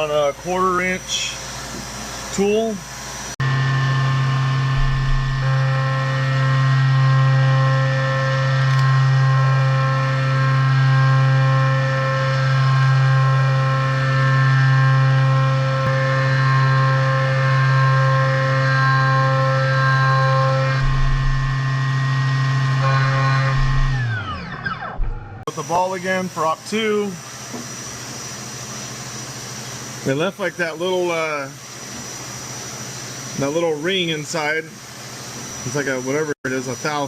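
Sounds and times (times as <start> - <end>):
milling machine whining hum: 0.0 - 37.0.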